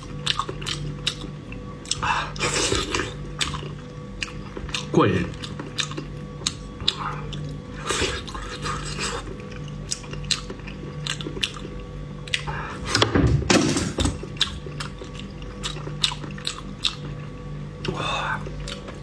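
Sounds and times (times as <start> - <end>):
wet chewing mouth clicks: 0.1 - 12.6, 14.4 - 17.2.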